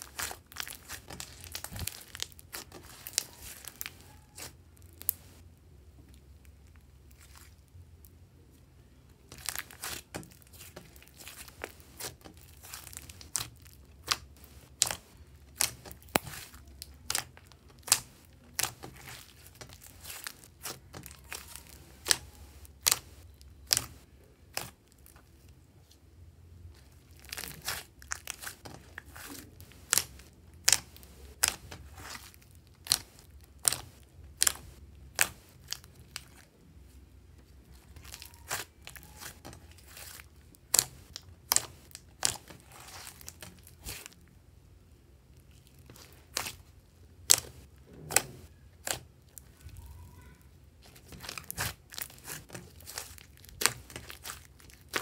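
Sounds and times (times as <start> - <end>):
slime popping and crackling: 0.0 - 5.4, 9.3 - 25.2, 26.8 - 36.5, 37.7 - 44.2, 45.4 - 55.0.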